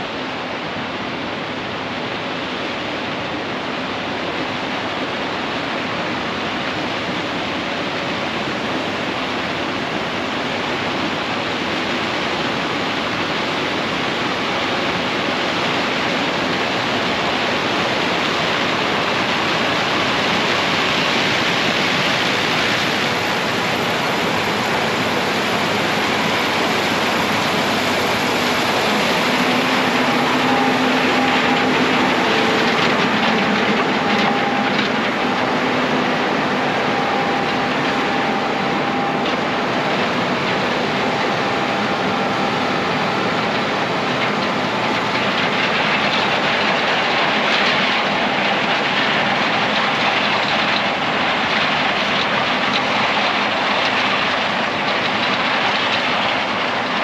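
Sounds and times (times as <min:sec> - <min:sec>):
rushing air noise: 0:00.0 - 0:56.7
harvester and tractor engine hum: 0:04.7 - 0:57.0.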